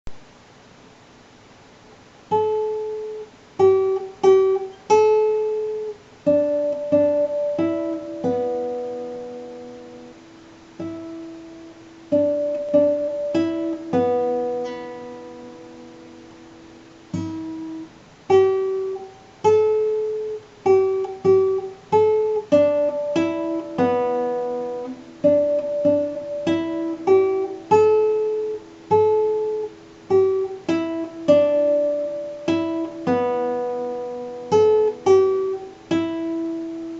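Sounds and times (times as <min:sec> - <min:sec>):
plucked string instrument: 0:02.3 - 0:36.9.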